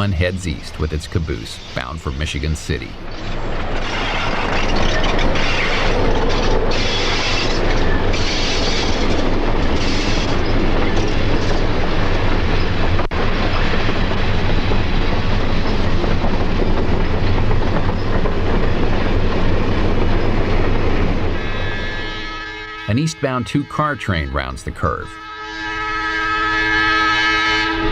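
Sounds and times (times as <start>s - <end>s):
train wheels rumbling on rails: 0.0s - 23.8s.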